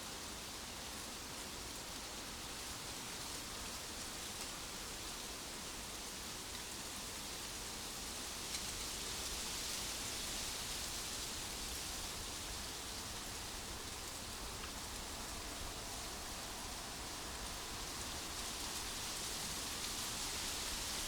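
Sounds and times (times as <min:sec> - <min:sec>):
outdoor ambience hiss: 0:00.0 - 0:21.0.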